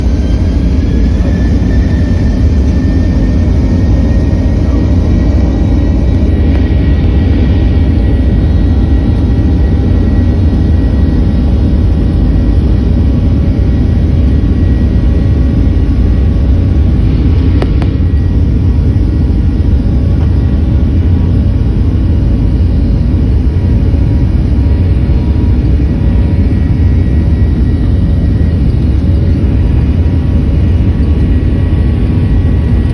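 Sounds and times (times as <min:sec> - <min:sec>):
jet engines at takeoff power: 0:00.0 - 0:32.9.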